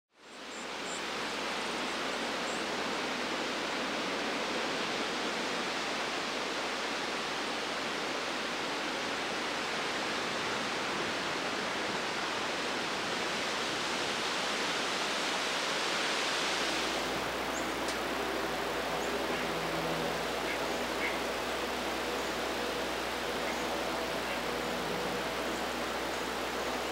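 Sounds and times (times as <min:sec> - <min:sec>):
running water rushing: 0:00.3 - 0:26.9.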